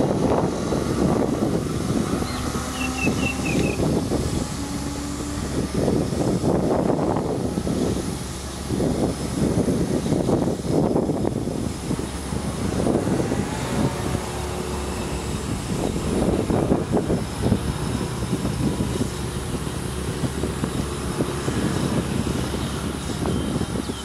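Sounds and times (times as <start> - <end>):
distant tram rumble: 0.0 - 24.0
gusty low noise: 0.0 - 24.0.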